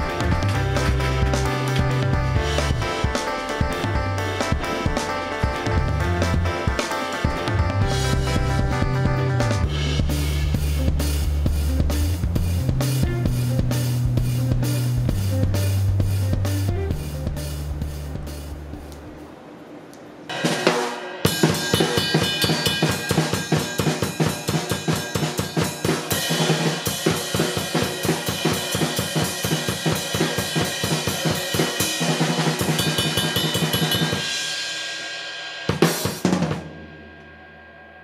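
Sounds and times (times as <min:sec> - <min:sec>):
drum kit groove: 0:00.0 - 0:19.4, 0:20.3 - 0:37.4.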